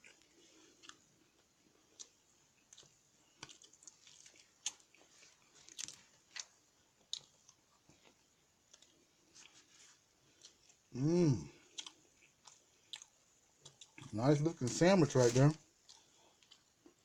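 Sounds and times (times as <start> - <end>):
person chewing sandwich: 0.0 - 17.0.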